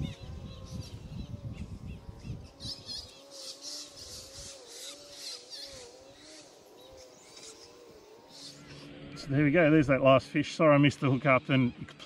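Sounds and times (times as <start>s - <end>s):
birds chirping: 0.0s - 12.0s
faint wavering hum: 0.0s - 12.0s.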